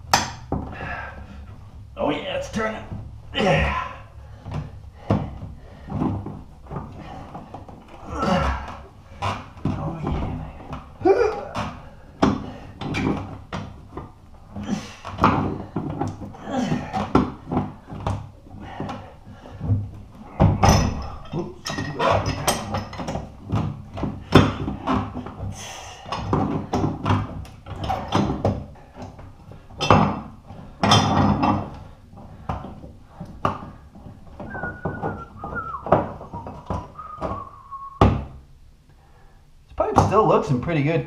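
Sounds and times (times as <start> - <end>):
pipe squeaking: 2.5 - 38.3.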